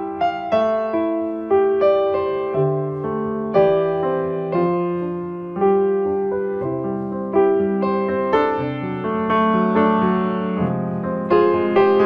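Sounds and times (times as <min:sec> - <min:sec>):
calm piano chords: 0:00.0 - 0:12.0.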